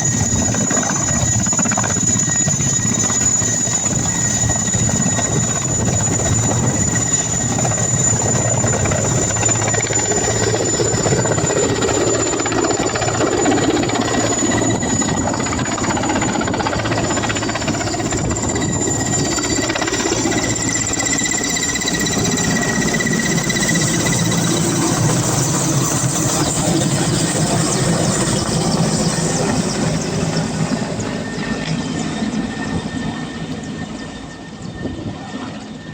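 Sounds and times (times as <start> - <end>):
helicopter running: 0.0 - 35.9.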